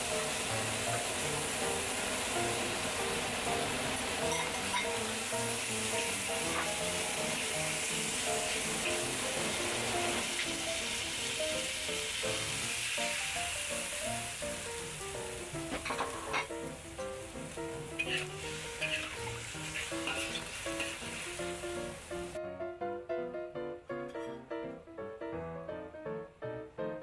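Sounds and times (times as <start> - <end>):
food sizzling in hot oil: 0.0 - 22.4
background music with simple melody: 0.0 - 27.0.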